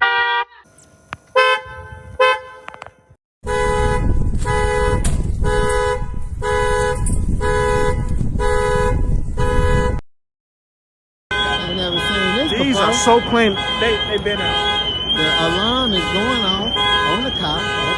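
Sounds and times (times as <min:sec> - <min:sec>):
car horn toots: 0:00.0 - 0:00.6, 0:01.3 - 0:10.0, 0:11.3 - 0:17.9
car alarm blaring horn: 0:00.0 - 0:00.7, 0:01.3 - 0:10.0, 0:11.3 - 0:17.9.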